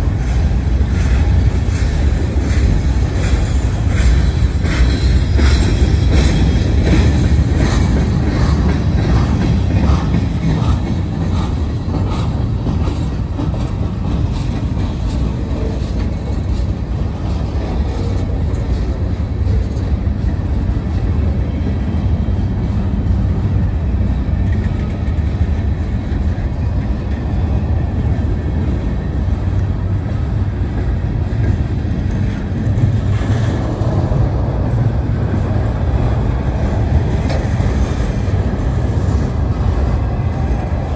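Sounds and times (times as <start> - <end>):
steel wheels rumbling on rail: 0.0 - 40.9
wheels clacking over rail joints: 0.0 - 40.9.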